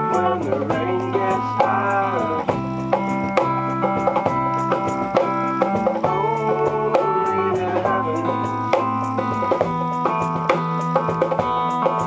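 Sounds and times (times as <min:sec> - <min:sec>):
acoustic guitar strumming: 0:00.0 - 0:12.0
electric bass line: 0:00.0 - 0:12.0
percussion hits: 0:00.1 - 0:12.0.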